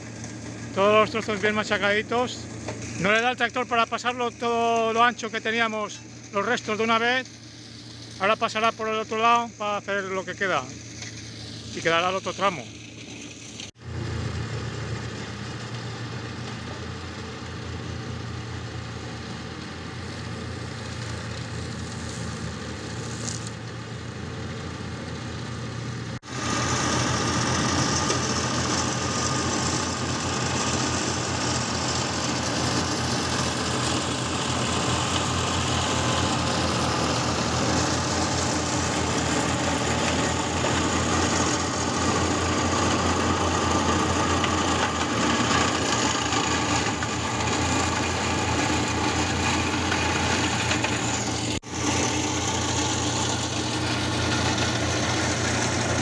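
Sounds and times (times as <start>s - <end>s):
shredder chopping branches: 0.0s - 56.0s
tractor engine running under load: 0.0s - 56.0s.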